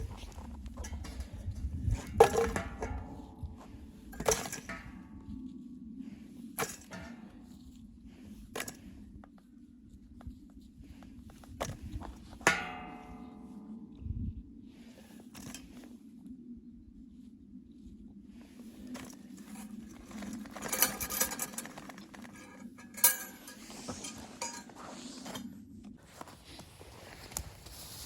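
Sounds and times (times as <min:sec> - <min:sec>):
low hum: 0:00.0 - 0:27.4.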